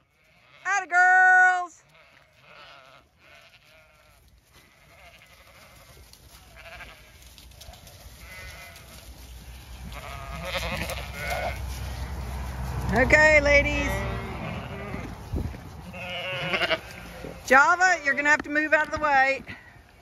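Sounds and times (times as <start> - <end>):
sheep bleating: 0.0 - 15.2, 15.8 - 18.9.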